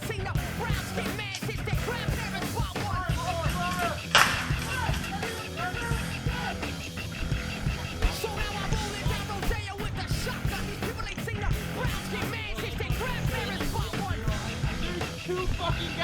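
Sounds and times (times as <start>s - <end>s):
rock music with singing: 0.0s - 16.0s.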